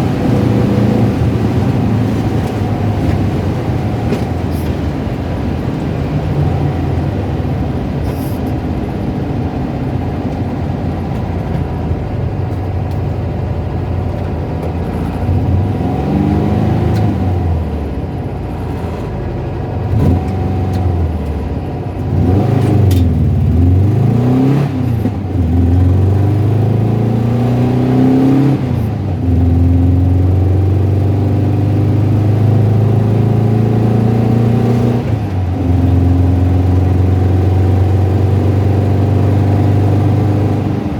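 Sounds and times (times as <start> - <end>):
car engine revving with rattling: 0.0 - 40.9.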